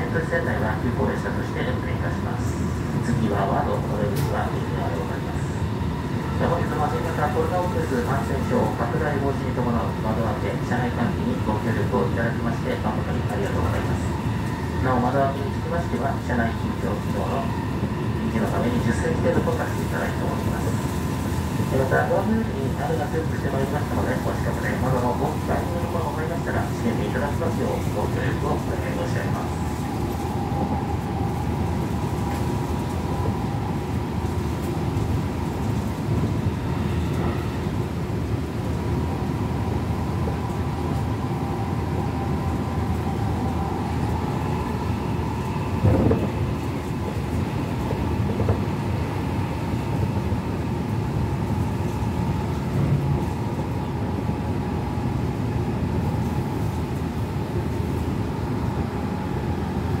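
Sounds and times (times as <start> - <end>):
steady train whine: 0.0 - 60.0
train wheels rumbling on rails: 2.0 - 60.0.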